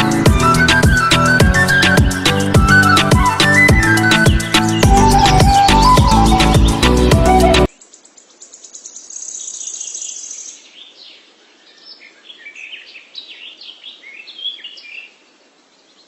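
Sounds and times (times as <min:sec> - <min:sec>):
small birds singing: 0:00.0 - 0:16.0.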